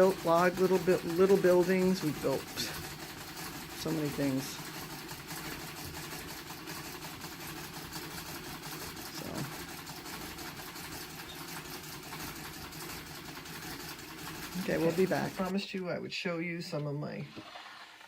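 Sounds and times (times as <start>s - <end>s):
treadle sewing machine clattering: 0.0s - 15.8s.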